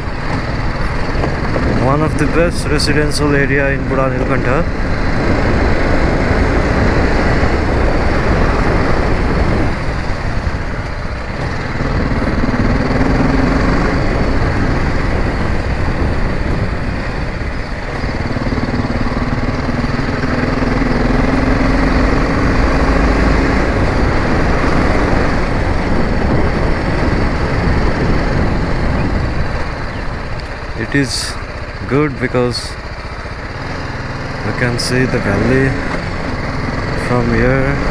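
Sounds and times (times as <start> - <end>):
wind rush over microphone: 0.0 - 31.1
motorcycle engine hum: 0.0 - 37.9.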